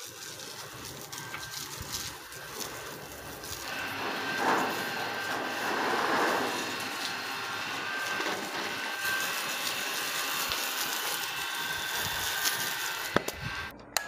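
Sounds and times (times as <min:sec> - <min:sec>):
hose spraying water on floor: 0:00.0 - 0:13.7.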